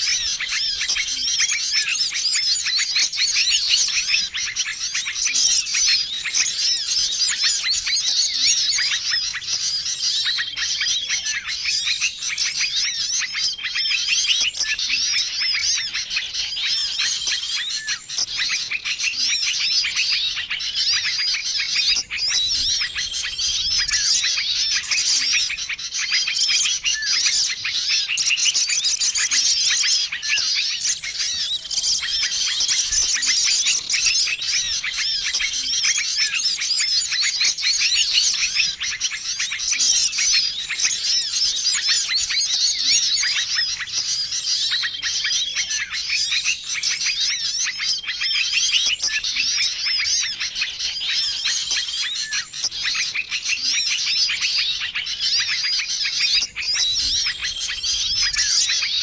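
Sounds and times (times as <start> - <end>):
songbirds chirping chorus: 0.0 - 59.0.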